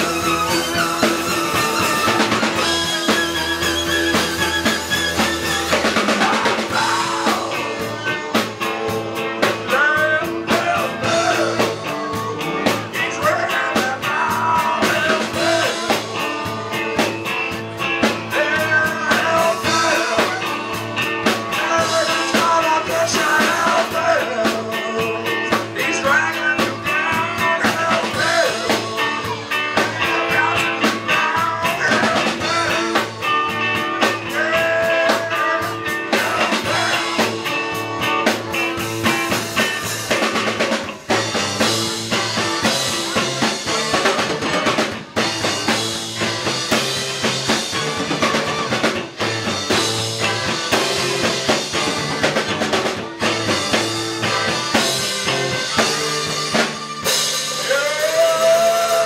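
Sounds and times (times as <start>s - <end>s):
drums beating: 0.0s - 59.0s
guitar: 0.0s - 59.0s
live rock band playing: 0.0s - 59.0s.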